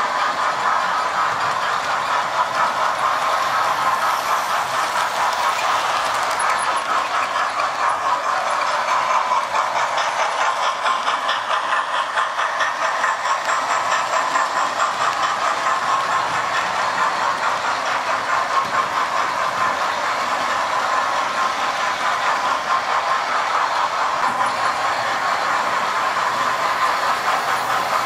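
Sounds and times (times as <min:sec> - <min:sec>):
metal wheels clicking over rail joints: 0:00.0 - 0:28.0.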